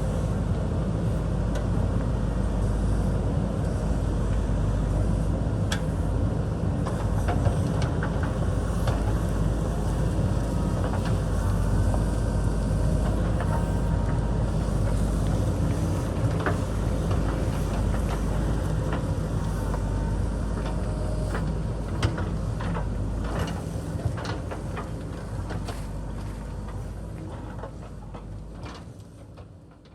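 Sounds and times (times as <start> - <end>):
diesel engine running: 0.0 - 28.6.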